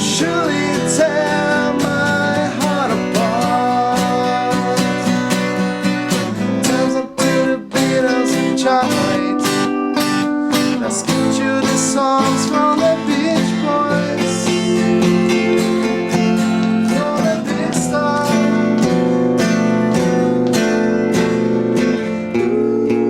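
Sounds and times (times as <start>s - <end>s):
strummed guitars: 0.0s - 23.0s.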